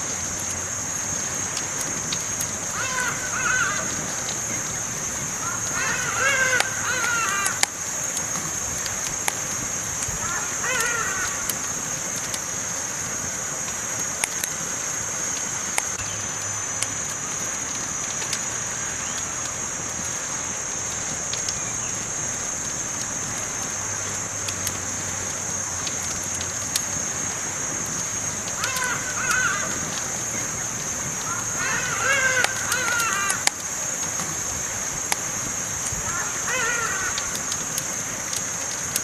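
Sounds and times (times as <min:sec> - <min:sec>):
campfire crackles and pops: 0:00.0 - 0:39.0
campfire hissing: 0:00.0 - 0:39.0.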